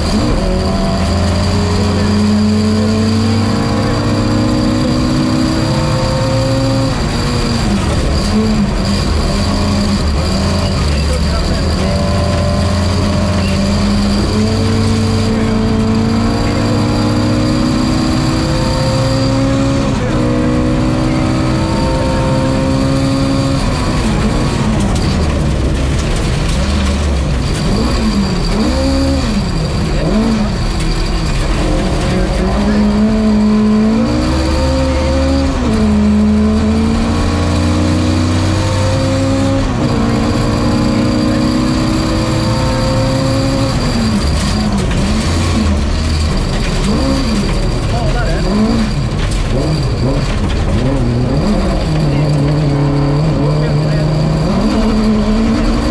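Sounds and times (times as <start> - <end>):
rally car engine revving: 0.0 - 55.9.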